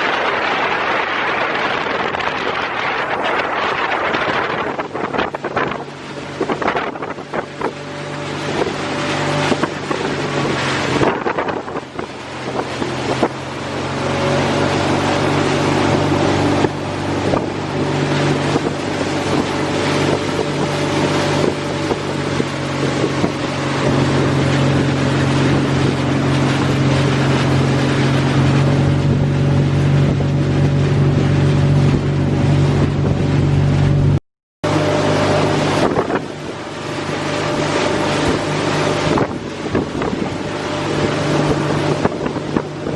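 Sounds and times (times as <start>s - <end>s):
motorboat engine drone: 0.0s - 42.9s
wind buffeting microphone: 0.0s - 42.9s.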